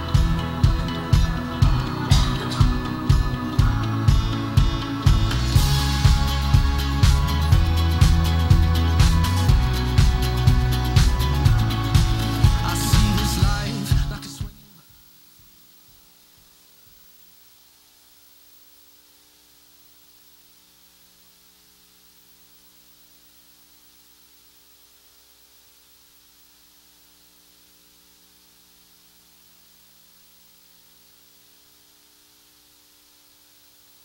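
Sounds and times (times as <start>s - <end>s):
faint steady hiss: 0.0s - 34.0s
low electrical hum: 0.0s - 34.0s.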